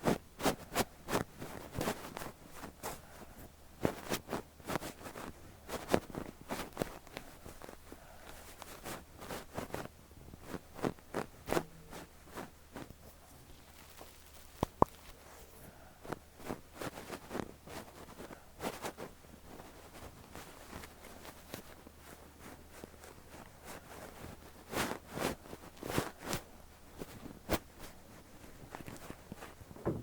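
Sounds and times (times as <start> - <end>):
puff rustling against microphone: 0.0 - 30.0.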